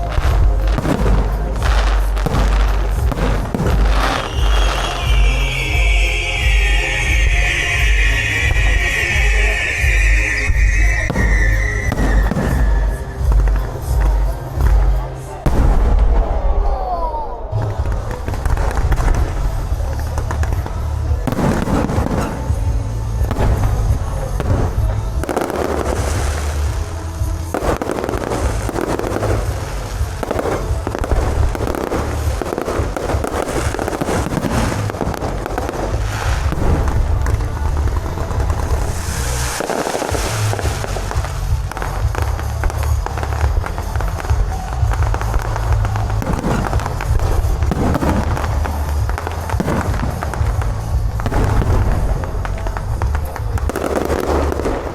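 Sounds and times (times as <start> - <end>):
deep firework booms: 0.0 - 16.9, 17.5 - 54.9
firecrackers crackling and popping: 0.0 - 54.9.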